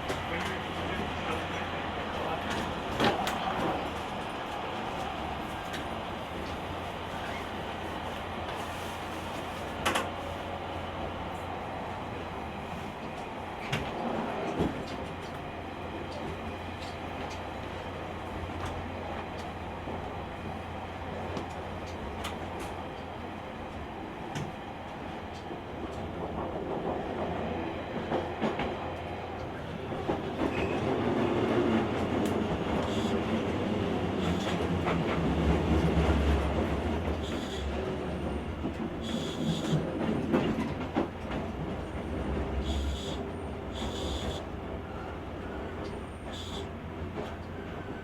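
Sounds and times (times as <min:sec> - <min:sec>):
train wheels rumbling: 0:00.0 - 0:48.0.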